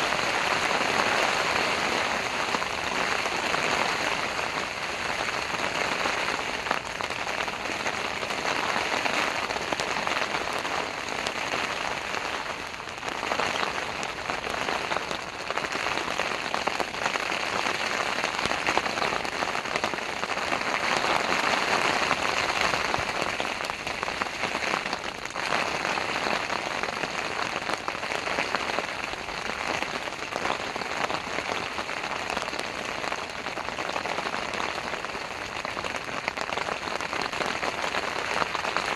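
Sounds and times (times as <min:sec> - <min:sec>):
heavy rain on tent fabric: 0:00.0 - 0:38.9.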